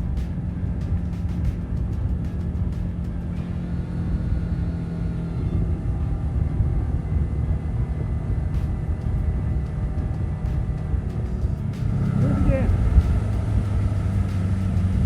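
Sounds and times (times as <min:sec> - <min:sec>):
outboard engine drone: 0:00.0 - 0:15.0.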